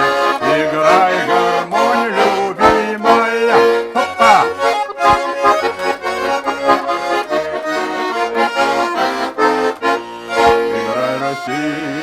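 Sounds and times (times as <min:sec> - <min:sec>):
button accordion folk melody: 0:00.0 - 0:12.0.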